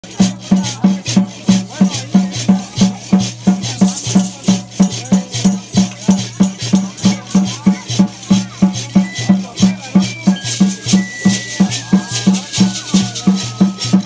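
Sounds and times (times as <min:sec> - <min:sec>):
gourd rattles shaking: 0:00.0 - 0:14.0
water drum beaten steadily: 0:00.0 - 0:14.0.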